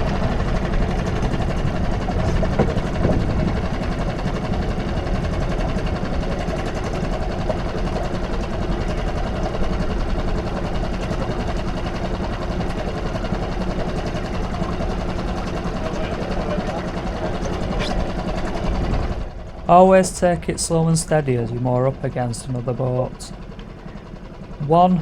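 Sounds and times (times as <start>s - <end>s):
small boat engine chattering: 0.0s - 25.0s.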